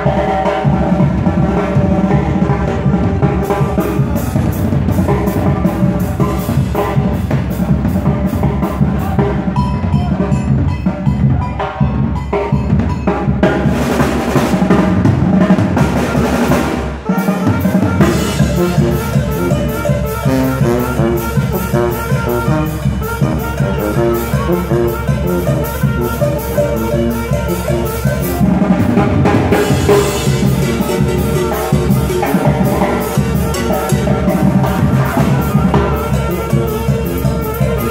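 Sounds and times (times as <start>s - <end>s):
tuba playing: 0.0s - 10.8s, 12.7s - 37.9s
saxophones playing: 0.0s - 13.4s, 15.8s - 37.9s
steady drum beat: 0.0s - 37.9s.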